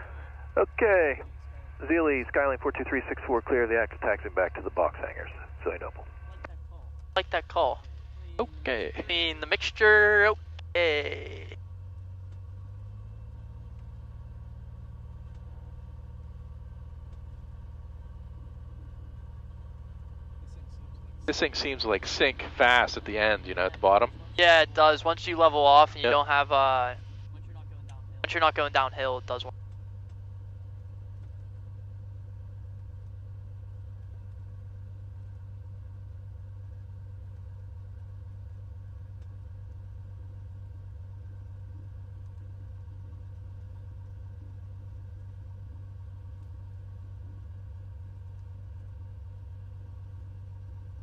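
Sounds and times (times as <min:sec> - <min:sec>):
aircraft engine drone in cabin: 0:00.0 - 0:51.0.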